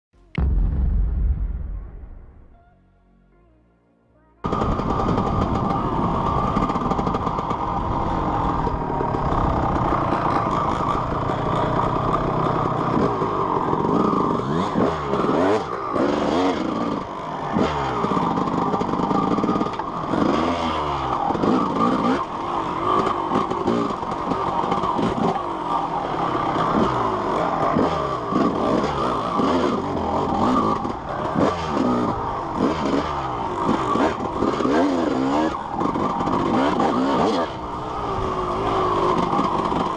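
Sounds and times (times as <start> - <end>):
dirt bike engine revving: 4.4 - 39.9.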